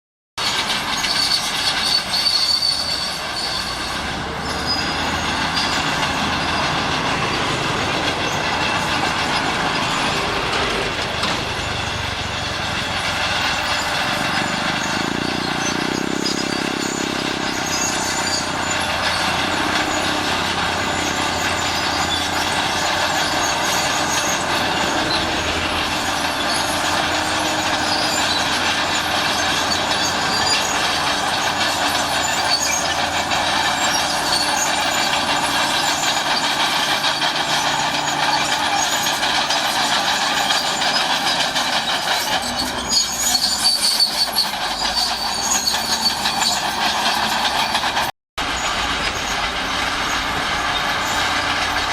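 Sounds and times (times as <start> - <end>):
diesel engine under load: 0.4 - 51.9
steel tracks squealing and grinding: 0.4 - 51.9.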